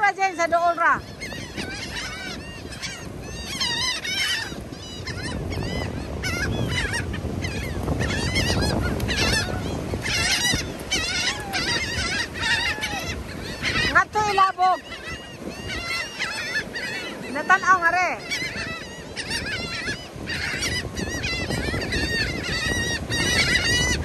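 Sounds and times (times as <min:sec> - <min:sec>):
seagulls calling: 0:00.0 - 0:24.0.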